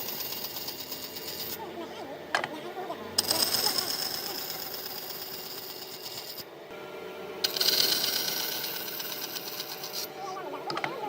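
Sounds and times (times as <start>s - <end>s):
power tool working wood: 0.0s - 11.0s.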